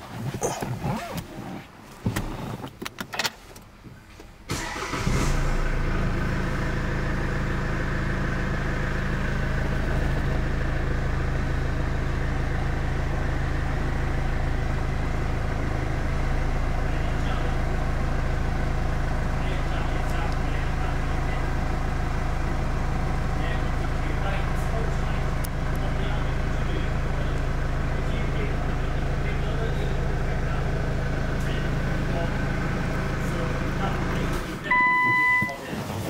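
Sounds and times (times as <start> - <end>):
car engine starting and idling: 0.3 - 35.7.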